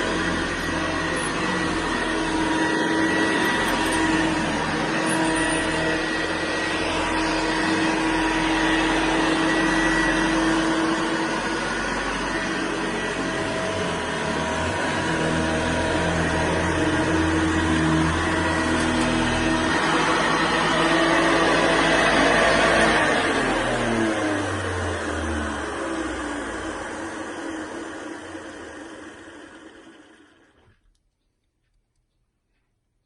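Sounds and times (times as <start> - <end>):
upright vacuum cleaner running: 0.0 - 30.9.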